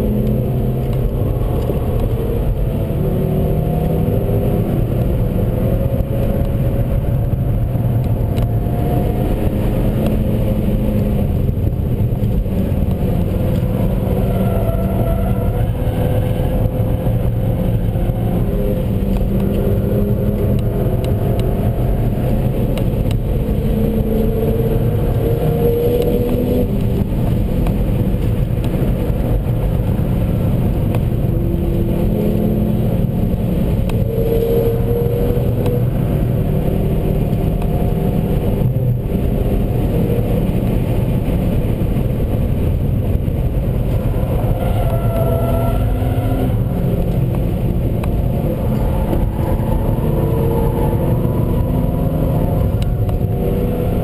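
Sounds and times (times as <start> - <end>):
car engine accelerating: 0.0 - 54.0
road and tyre noise: 0.0 - 54.0.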